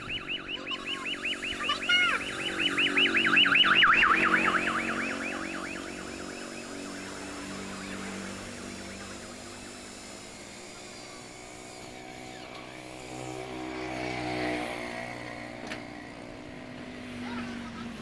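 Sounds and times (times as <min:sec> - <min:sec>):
motorcycle engine passing: 0:00.0 - 0:17.2.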